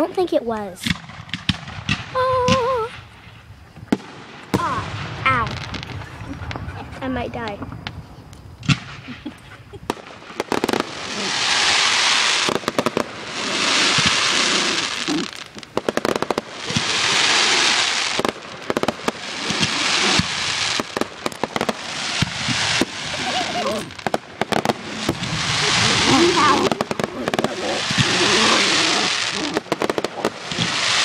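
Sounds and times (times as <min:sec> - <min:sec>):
crackling hiss of fireworks: 0:00.0 - 0:31.0
fireworks cracking: 0:00.0 - 0:31.0.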